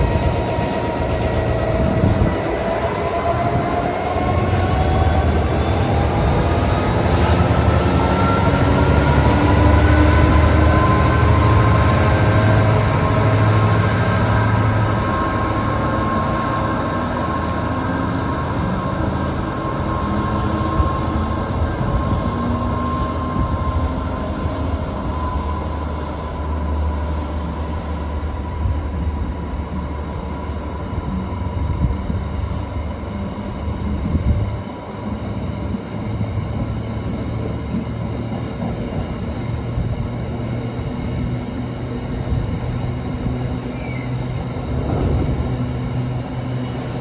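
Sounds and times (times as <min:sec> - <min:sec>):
diesel locomotive engine drone: 0:00.0 - 0:47.0.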